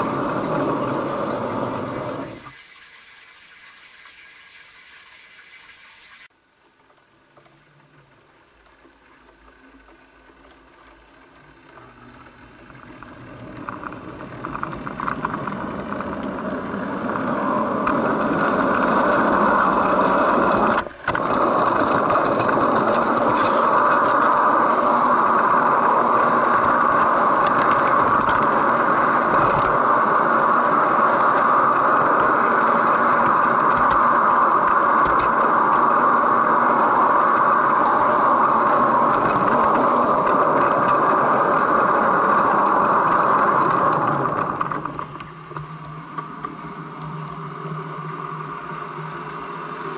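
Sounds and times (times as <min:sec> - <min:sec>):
model train whirring on rails: 0:00.0 - 0:06.3, 0:10.6 - 0:49.9.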